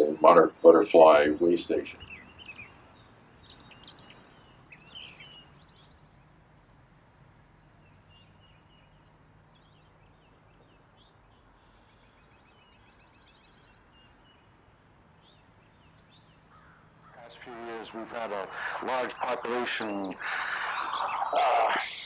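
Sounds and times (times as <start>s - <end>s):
small birds chirping: 0.0s - 22.0s
bird trills: 1.8s - 7.1s, 7.7s - 22.0s.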